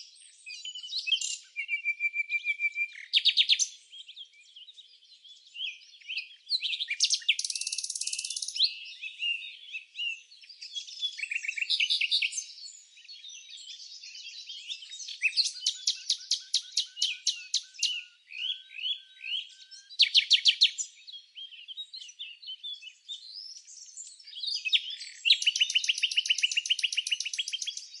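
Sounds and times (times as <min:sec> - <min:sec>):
songbirds singing and chirping: 0:00.0 - 0:28.0.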